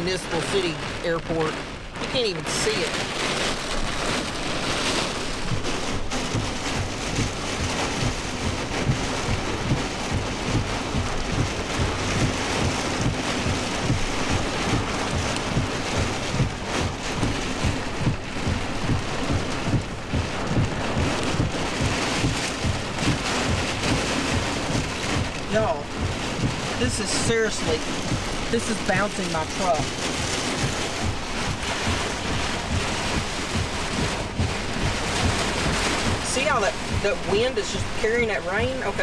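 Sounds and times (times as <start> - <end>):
heavy rain pelting a truck: 0.0 - 39.0
wind gusts buffeting: 2.9 - 37.9.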